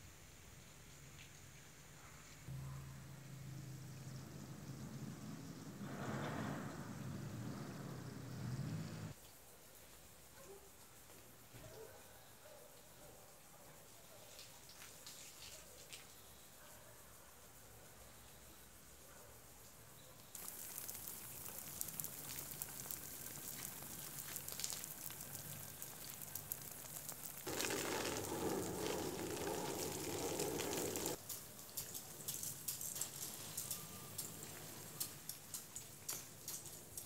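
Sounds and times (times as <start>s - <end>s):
light rain pattering: 0.0s - 2.5s, 3.2s - 37.0s.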